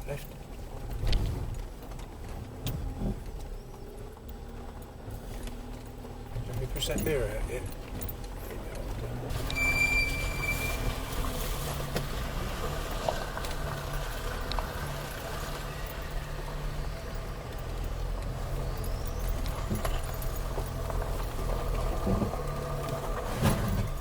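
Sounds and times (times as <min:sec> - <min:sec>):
car engine at low revs: 0:00.0 - 0:24.0.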